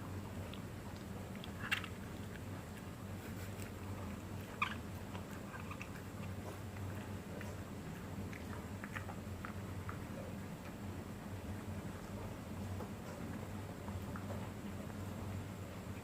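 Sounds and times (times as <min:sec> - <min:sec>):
dog chewing wetly: 0:00.0 - 0:16.0.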